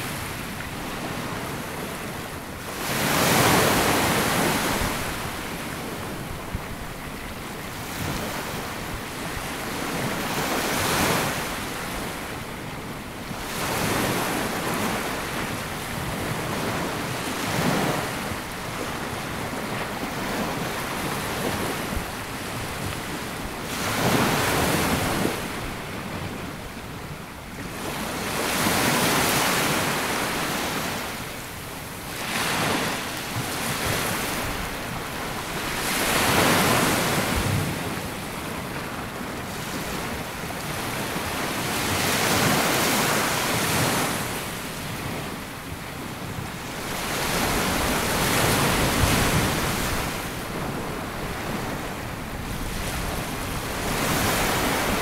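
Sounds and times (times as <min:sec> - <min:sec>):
waves breaking on sandy beach: 0:00.0 - 0:55.0
wind noise on microphone: 0:00.0 - 0:55.0.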